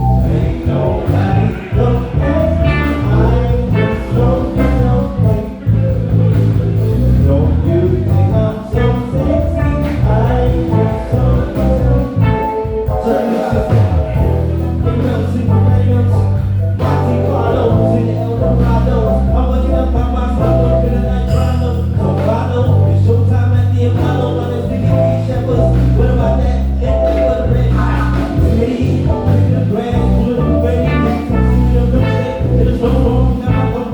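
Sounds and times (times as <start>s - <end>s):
electric bass low notes: 0.0s - 33.9s
live band playing soul groove: 0.0s - 33.9s.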